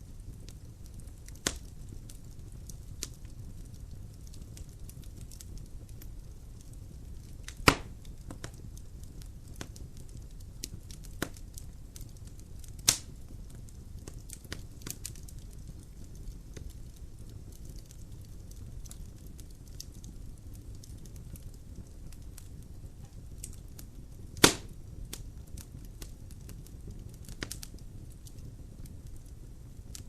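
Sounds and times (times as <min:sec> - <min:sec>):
fire popping and crackling: 0:00.0 - 0:30.0
loud snaps of burning logs: 0:00.0 - 0:30.0
low rumble of fire: 0:00.0 - 0:30.0.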